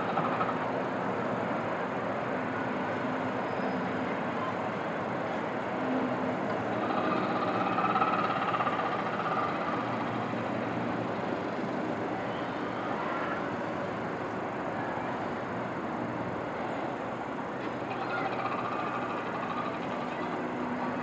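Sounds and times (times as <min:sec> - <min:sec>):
distant city traffic: 0:00.0 - 0:21.0
rail noise hum: 0:00.0 - 0:21.0
train passing with faint whine: 0:00.0 - 0:21.0.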